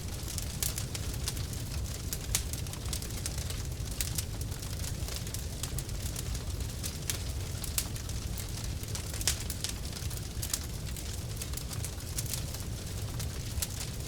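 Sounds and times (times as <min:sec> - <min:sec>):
fire crackling and popping: 0:00.0 - 0:14.0
flames rumbling: 0:00.0 - 0:14.0.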